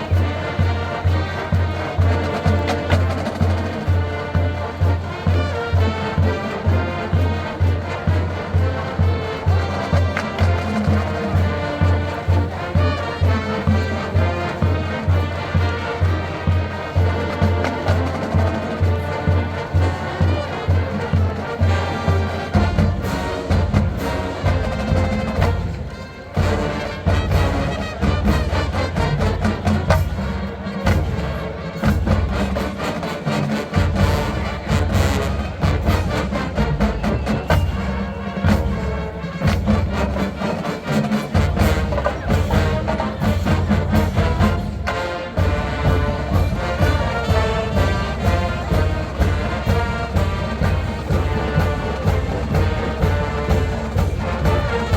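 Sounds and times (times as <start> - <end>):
brass chords: 0.0 - 54.9
drumline beat: 0.0 - 54.9.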